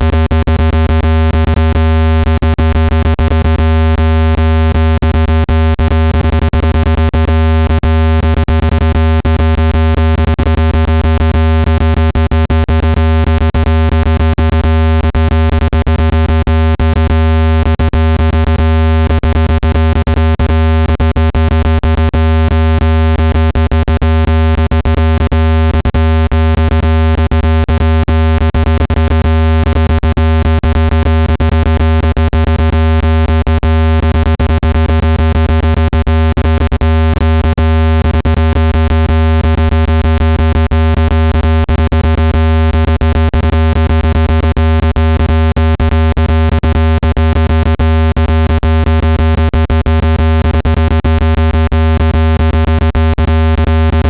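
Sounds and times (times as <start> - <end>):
low-pitched synthetic buzzing tone: 0.0 - 54.0.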